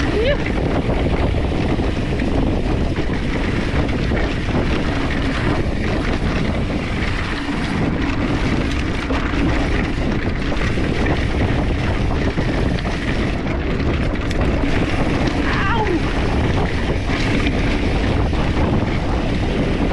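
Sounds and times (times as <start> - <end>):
tyres rolling over dirt: 0.0 - 19.9
wind rushing over microphone: 0.0 - 19.9.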